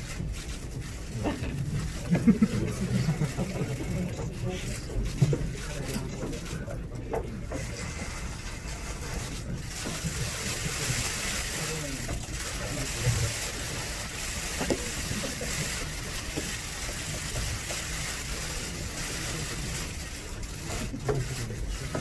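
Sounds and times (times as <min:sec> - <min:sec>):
murmur of voices: 0:00.0 - 0:22.0.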